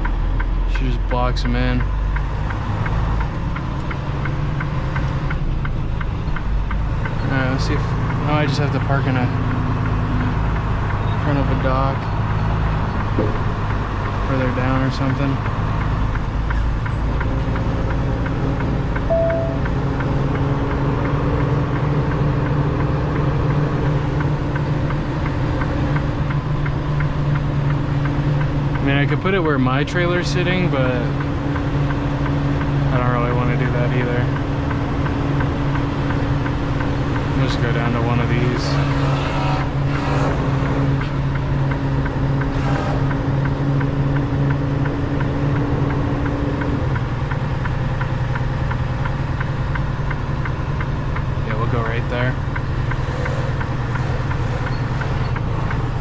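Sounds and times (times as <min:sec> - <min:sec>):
light even ticking: 0:00.0 - 0:38.8, 0:39.6 - 0:56.0
diesel truck engine running: 0:00.0 - 0:56.0.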